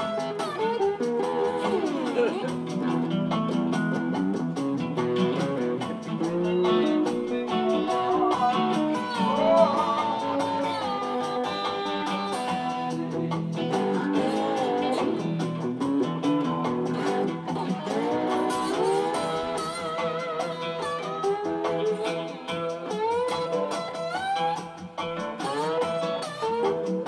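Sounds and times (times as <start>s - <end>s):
acoustic guitar picking blues: 0.0s - 27.0s
slide guitar: 0.0s - 27.0s.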